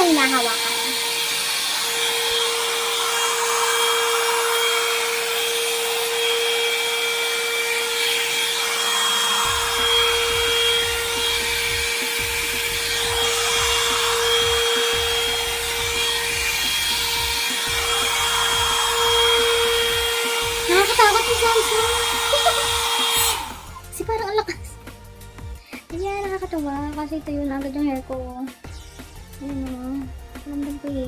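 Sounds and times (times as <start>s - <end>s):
hot-air brush motor hum: 0.0s - 25.9s.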